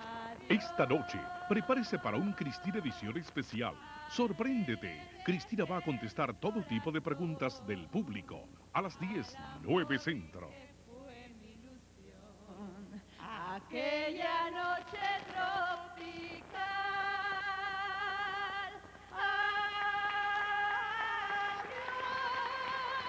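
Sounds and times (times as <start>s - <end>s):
woman singing with music: 0.0s - 23.0s.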